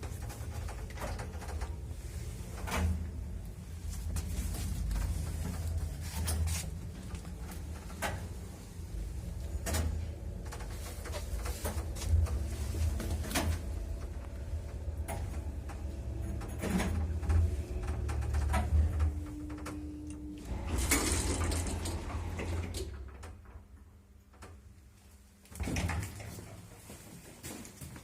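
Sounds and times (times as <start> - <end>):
lift rumbling: 0.0 - 24.5
knocks and creaks: 0.0 - 24.7.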